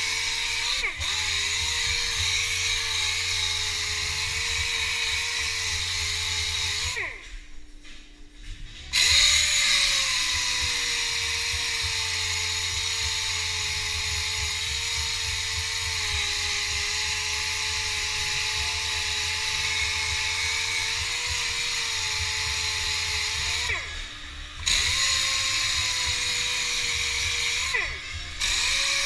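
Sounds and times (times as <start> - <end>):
power tool whining: 0.0 - 7.8, 8.4 - 29.0.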